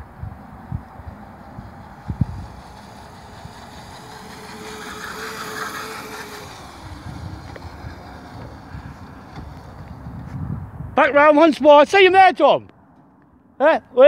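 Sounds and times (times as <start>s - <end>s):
dirt bike motor whine: 0.0s - 11.4s.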